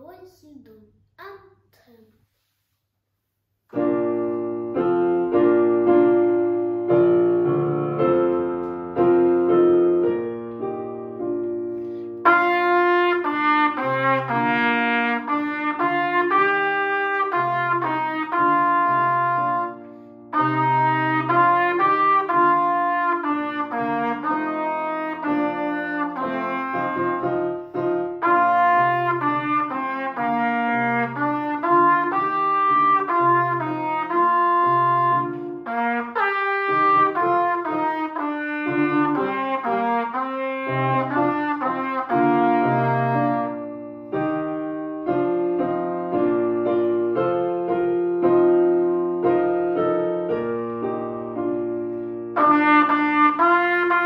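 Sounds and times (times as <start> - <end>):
piano chords: 3.7 - 54.0
brass instrument melody: 3.8 - 54.0.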